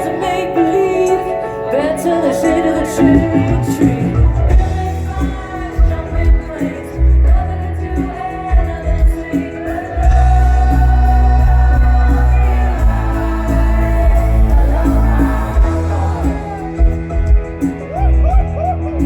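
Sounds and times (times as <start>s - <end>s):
woman singing lead: 0.0s - 19.0s
drums: 1.9s - 19.0s
bass: 3.0s - 19.0s.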